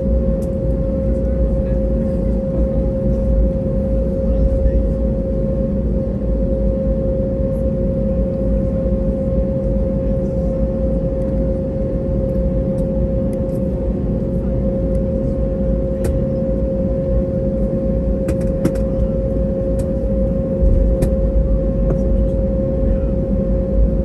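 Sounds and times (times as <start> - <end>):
aircraft cabin rumble: 0.0 - 24.0
constant whine: 0.0 - 24.0.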